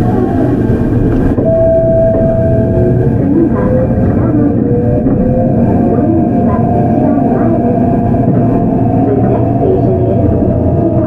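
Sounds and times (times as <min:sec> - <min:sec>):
wheel and rail rumble: 0:00.0 - 0:11.0.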